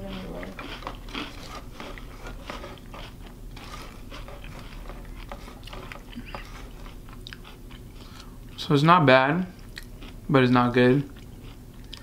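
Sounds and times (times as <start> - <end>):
person chewing crunchy cereal: 0.0 - 12.0.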